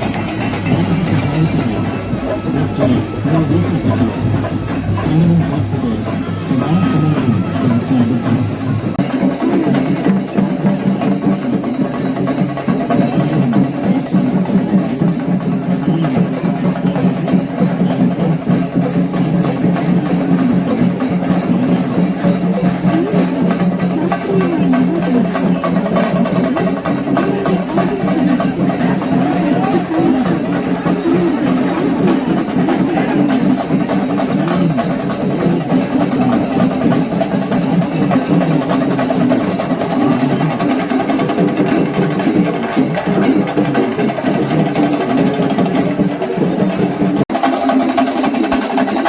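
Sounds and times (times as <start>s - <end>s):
fast percussion ensemble drumming: 0.0s - 49.0s.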